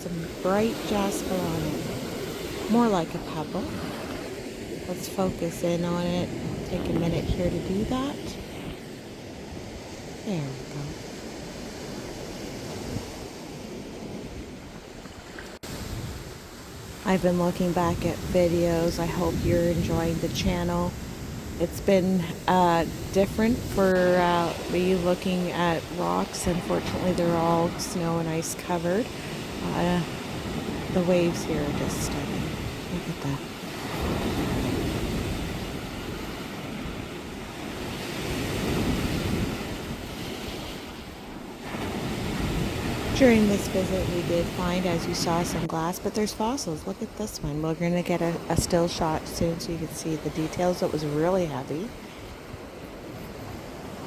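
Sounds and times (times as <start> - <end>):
waves washing onto shore: 0.0 - 54.0
wind buffeting microphone: 0.0 - 54.0.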